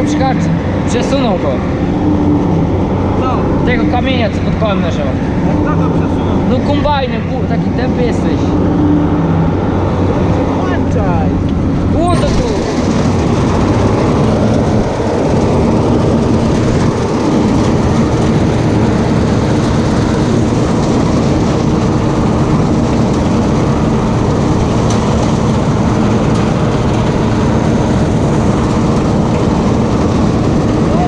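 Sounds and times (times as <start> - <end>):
combine harvester engine drone: 0.0 - 31.0.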